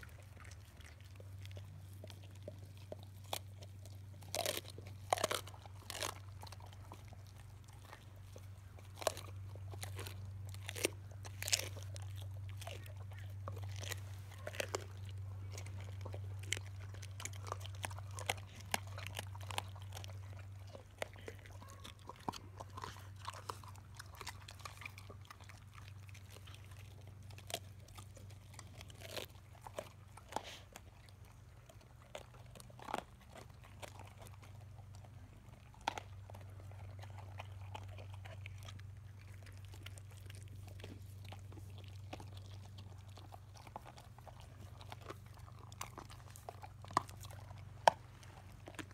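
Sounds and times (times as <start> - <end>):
dogs chewing and crunching bones: 0.0 - 48.9
steady low hum: 0.0 - 48.9.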